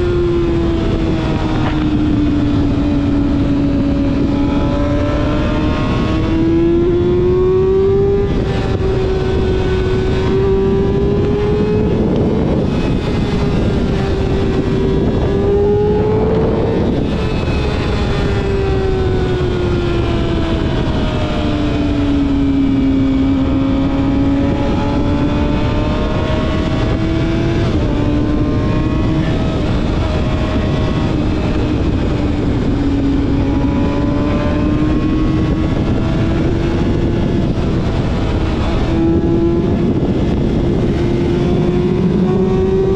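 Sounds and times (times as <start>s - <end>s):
motorcycle engine at high revs: 0.0s - 42.9s
wind noise on microphone: 0.0s - 42.9s.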